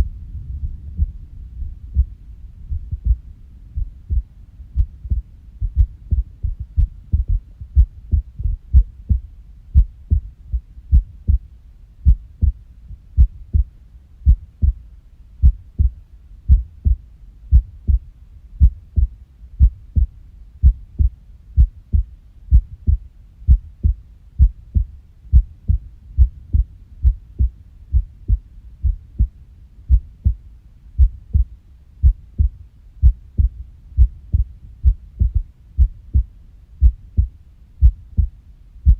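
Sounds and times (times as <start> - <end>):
irregular heartbeat thumps: 0.0 - 14.8, 15.4 - 38.9.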